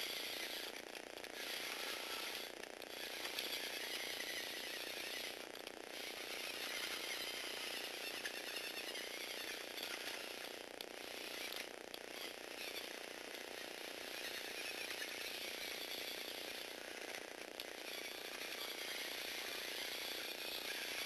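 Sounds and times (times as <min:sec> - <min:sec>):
electric motor whirring gears: 0:00.0 - 0:21.0.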